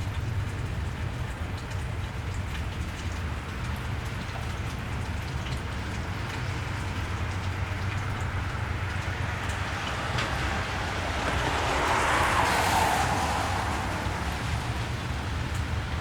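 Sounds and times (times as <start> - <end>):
rain on a wet street: 0.0 - 16.0.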